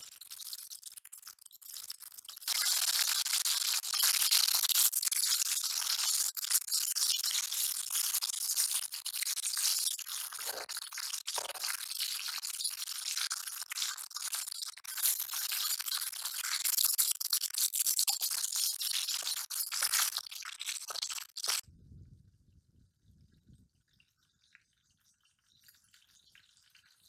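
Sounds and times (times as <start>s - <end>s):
fish frying in hot oil: 0.0s - 21.6s, 23.6s - 27.0s.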